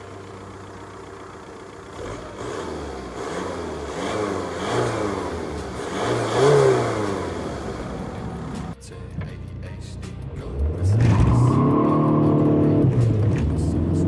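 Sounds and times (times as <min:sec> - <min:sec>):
diesel car accelerating: 0:00.0 - 0:14.0.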